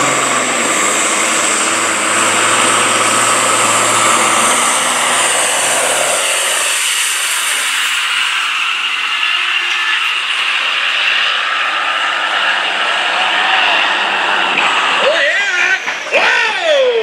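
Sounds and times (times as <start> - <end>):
diesel truck engine at full throttle: 0.0 - 17.0
high whine: 0.0 - 17.0.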